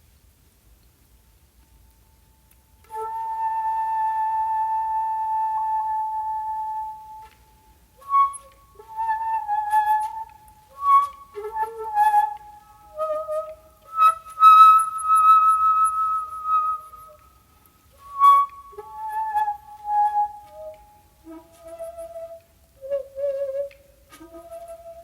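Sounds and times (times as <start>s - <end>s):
bamboo flute playing: 2.5s - 25.0s.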